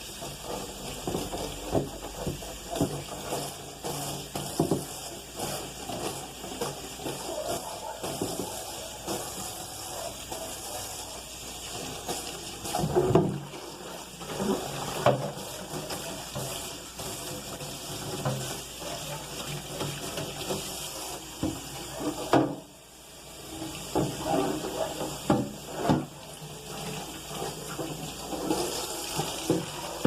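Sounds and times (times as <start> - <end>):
tap water running into sink: 0.0 - 30.0.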